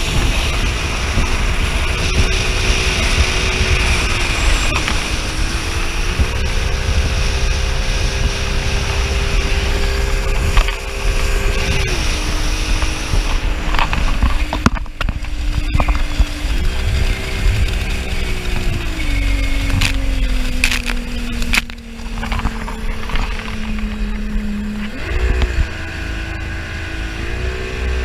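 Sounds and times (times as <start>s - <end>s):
speedboat engine running: 0.0s - 28.0s
wind and water rushing: 0.0s - 28.0s.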